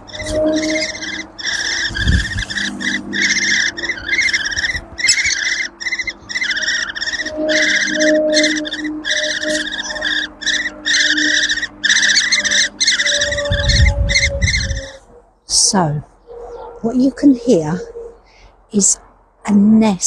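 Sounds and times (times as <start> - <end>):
woodpecker nestlings begging chatter: 0.0 - 18.0.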